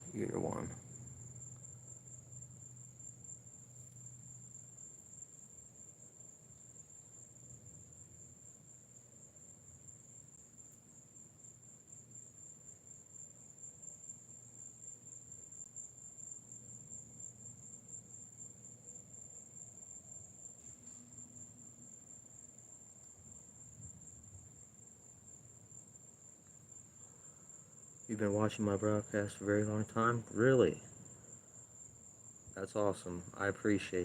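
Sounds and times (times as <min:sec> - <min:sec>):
night insects trilling: 0:00.0 - 0:34.0.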